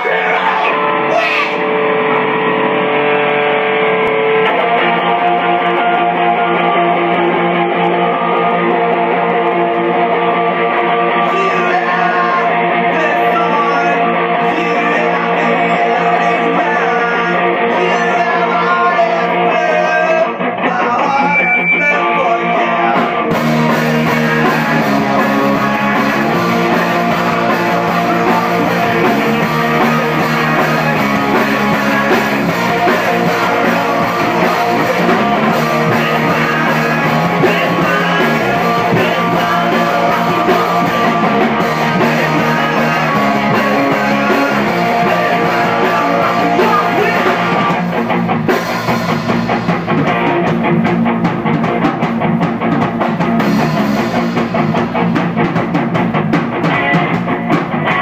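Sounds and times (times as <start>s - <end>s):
bass guitar: 0.0s - 58.0s
drums: 0.0s - 58.0s
electric guitar: 0.0s - 58.0s.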